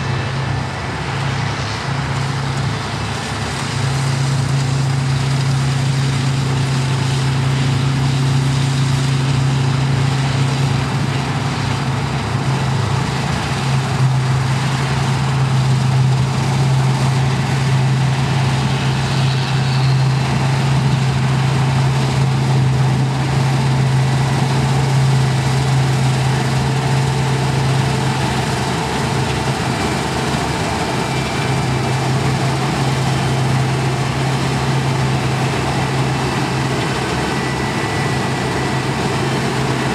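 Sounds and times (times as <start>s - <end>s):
combine harvester engine drone: 0.0s - 39.9s
mechanical rush: 0.0s - 39.9s.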